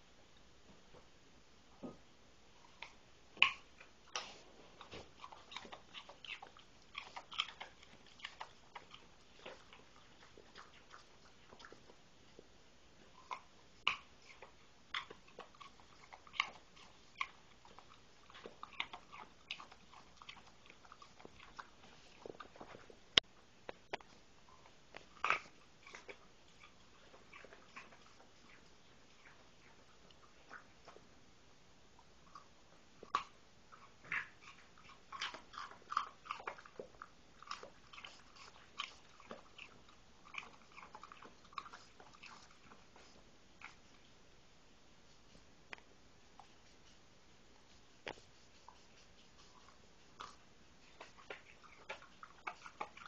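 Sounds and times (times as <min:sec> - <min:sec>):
chewing and crunching: 0:02.6 - 0:31.1, 0:32.0 - 0:44.1, 0:47.6 - 0:53.0.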